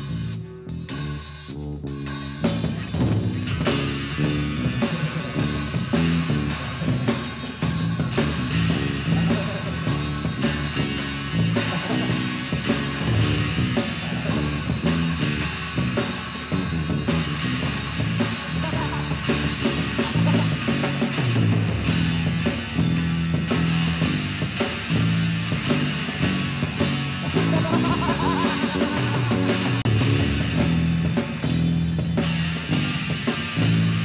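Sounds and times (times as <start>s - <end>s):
drum kit beat: 0.0s - 34.0s
rock band playing: 0.0s - 34.0s.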